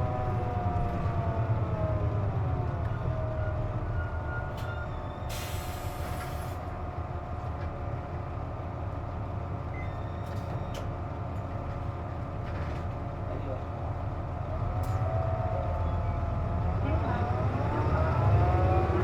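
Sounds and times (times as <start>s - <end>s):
bus engine hum with whine: 0.0s - 19.0s.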